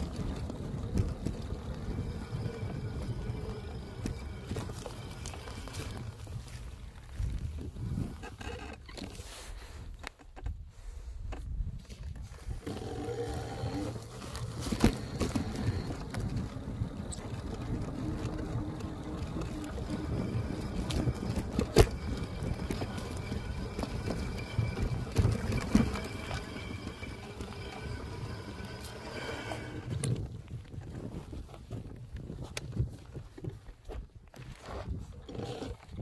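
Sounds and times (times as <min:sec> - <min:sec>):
bike knocking and rattling: 0:00.0 - 0:09.1, 0:11.3 - 0:34.0
wind and tyres on rough ground: 0:00.0 - 0:36.0.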